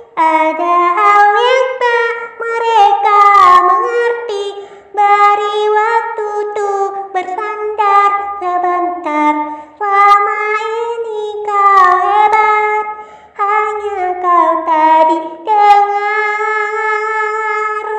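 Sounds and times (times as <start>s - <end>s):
high voice singing slow melody: 0.0s - 17.9s.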